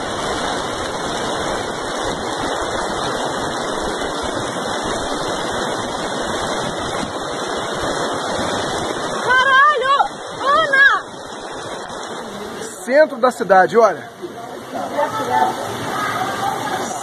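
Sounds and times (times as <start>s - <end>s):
flood water rushing: 0.0s - 17.0s.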